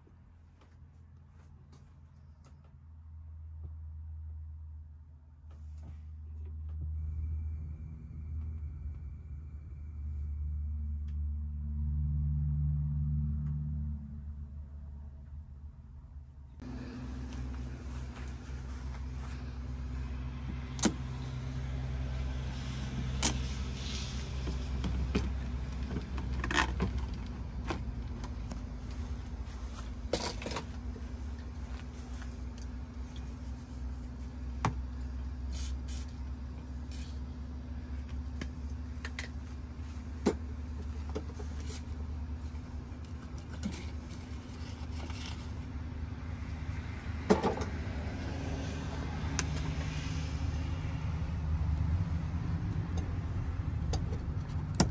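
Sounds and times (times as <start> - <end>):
low steady hum: 0.0 - 54.9.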